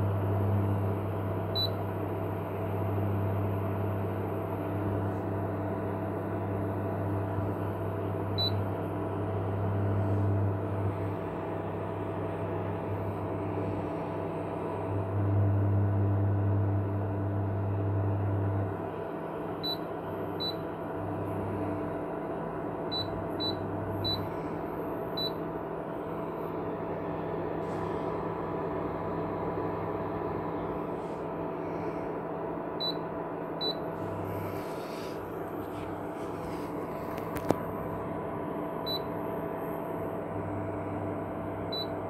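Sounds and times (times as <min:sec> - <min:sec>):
induction cooktop humming: 0:00.0 - 0:42.0.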